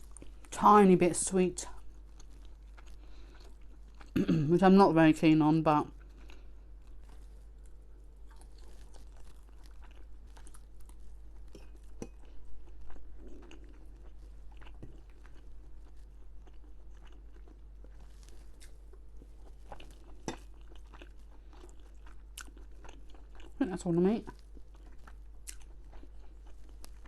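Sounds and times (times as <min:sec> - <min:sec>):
person chewing food: 0:00.0 - 0:00.5, 0:01.8 - 0:04.2, 0:05.9 - 0:23.6, 0:24.2 - 0:27.0.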